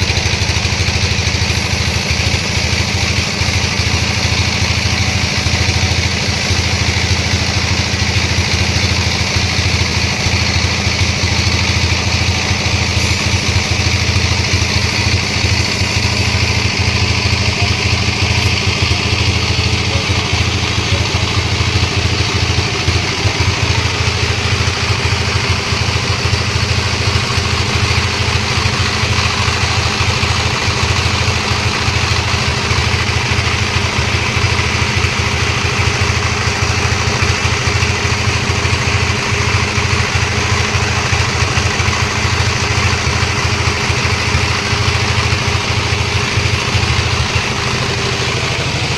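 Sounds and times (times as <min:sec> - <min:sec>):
sawmill engine humming: 0:00.0 - 0:48.9.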